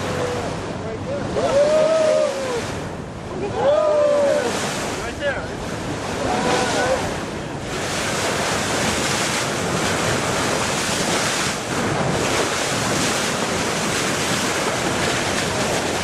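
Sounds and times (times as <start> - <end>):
water washing past boat: 0.0 - 16.0
wind on microphone: 0.0 - 16.0.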